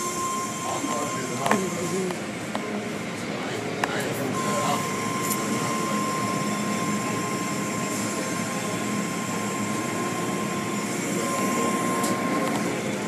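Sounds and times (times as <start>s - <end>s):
thin constant whine: 0.0s - 13.0s.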